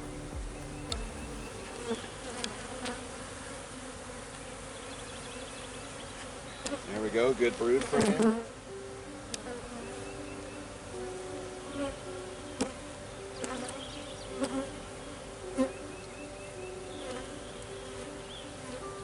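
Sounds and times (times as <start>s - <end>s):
honeybees buzzing: 0.0s - 6.8s, 9.4s - 19.0s.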